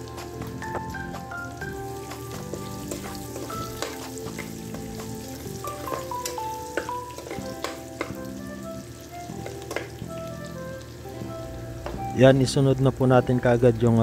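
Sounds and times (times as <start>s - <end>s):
garlic sizzling in hot oil: 0.0s - 14.0s
soft background music: 0.0s - 14.0s.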